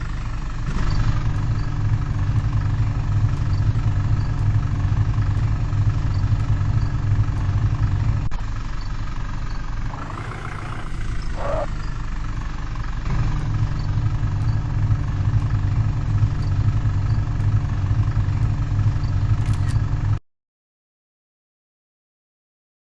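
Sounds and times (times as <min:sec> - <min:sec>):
tractor diesel engine humming: 0:00.0 - 0:20.2.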